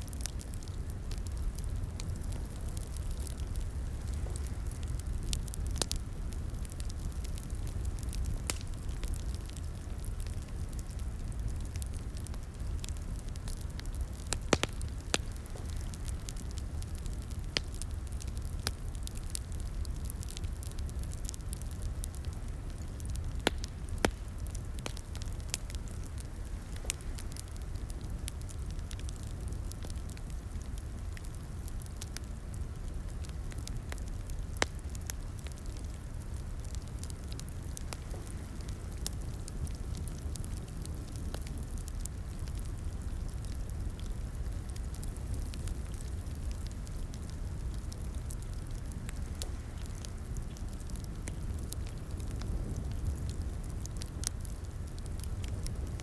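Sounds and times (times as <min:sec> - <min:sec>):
wood fire crackling: 0:00.0 - 0:56.0
sharp pops of burning wood: 0:00.1 - 0:56.0.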